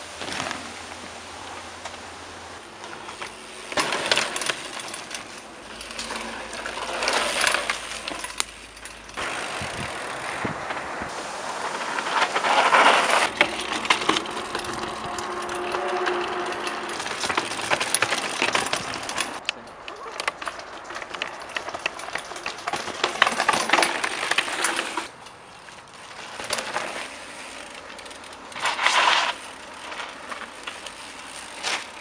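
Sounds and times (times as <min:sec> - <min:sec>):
bike rattling: 0:00.0 - 0:32.0
bike tyres rolling and skidding: 0:00.0 - 0:32.0.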